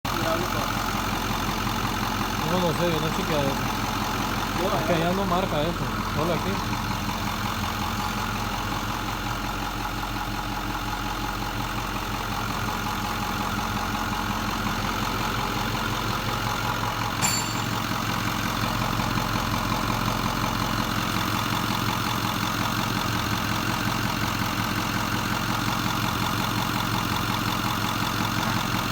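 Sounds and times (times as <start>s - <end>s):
diesel engine idling roughly: 0.0s - 28.9s.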